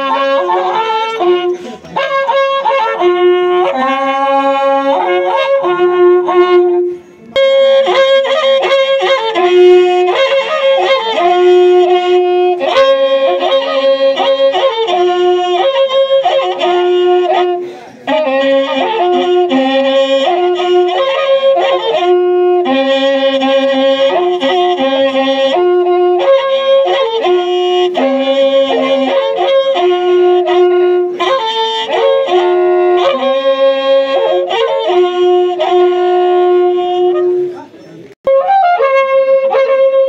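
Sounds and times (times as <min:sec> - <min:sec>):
horn trumpets playing long notes: 0:00.0 - 0:40.0.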